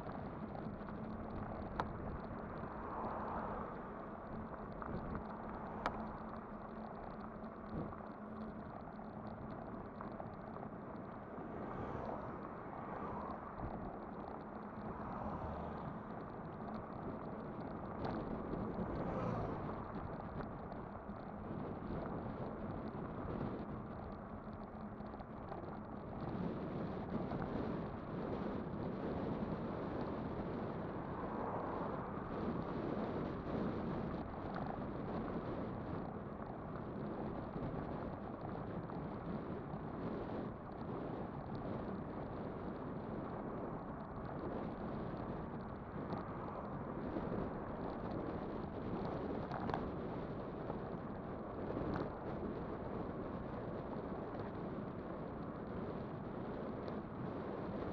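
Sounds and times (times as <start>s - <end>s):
wind rushing over microphone: 0.0s - 57.9s.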